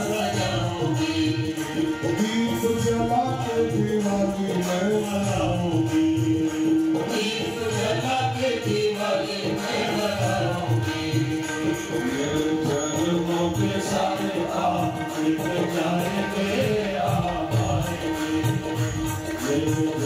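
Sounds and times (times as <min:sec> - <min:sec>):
devotional singing: 0:00.0 - 0:20.0
instrumental accompaniment: 0:00.0 - 0:20.0
percussion: 0:00.0 - 0:20.0.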